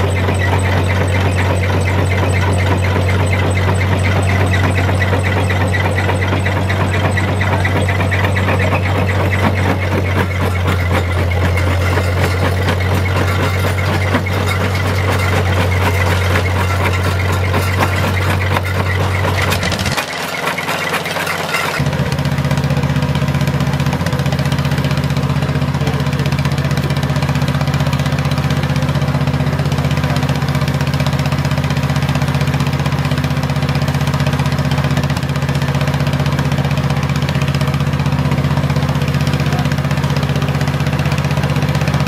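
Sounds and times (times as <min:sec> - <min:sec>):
ore mill machinery droning: 0:00.0 - 0:42.0.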